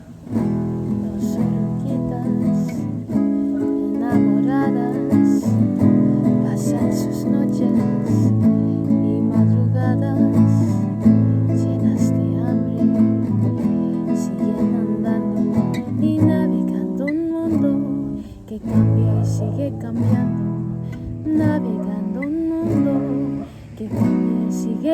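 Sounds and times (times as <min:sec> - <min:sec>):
acoustic guitar playing: 0:00.0 - 0:24.9.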